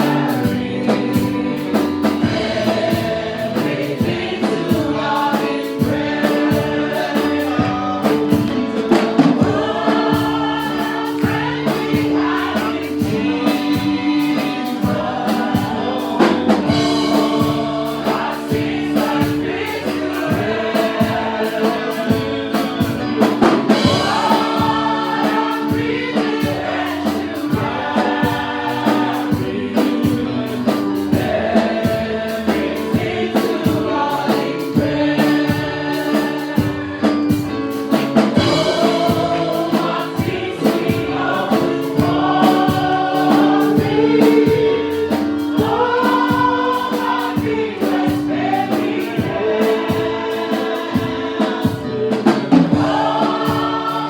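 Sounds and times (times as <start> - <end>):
choir singing gospel music: 0.0 - 54.0
steady beat: 0.0 - 54.0.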